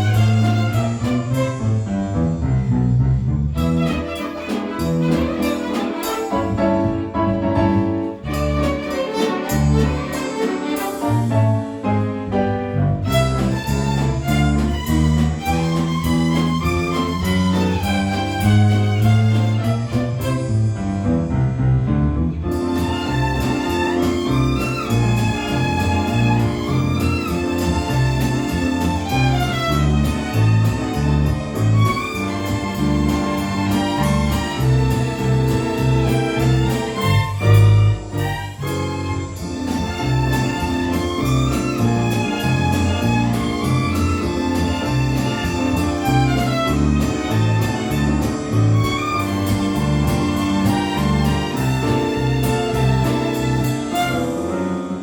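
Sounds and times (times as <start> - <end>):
violin ensemble playing: 0.0 - 2.2, 3.5 - 20.6, 22.3 - 55.0
bass part: 0.0 - 4.2, 11.0 - 54.7
piano accompaniment: 0.0 - 55.0.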